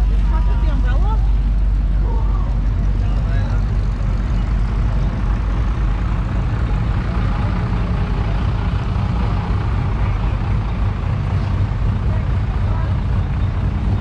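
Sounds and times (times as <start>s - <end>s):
car engines idling and passing: 0.0s - 14.0s.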